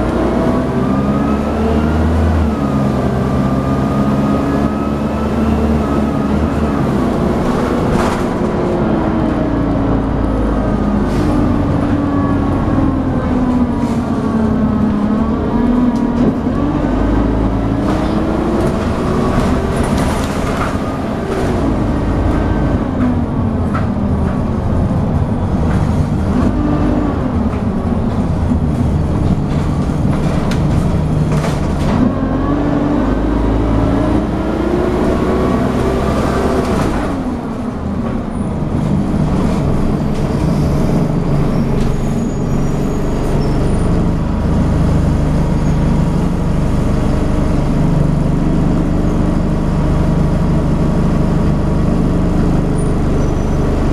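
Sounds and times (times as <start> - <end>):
bus diesel engine accelerating: 0.0 - 53.9
bus body rattles: 1.7 - 33.1, 33.8 - 53.9.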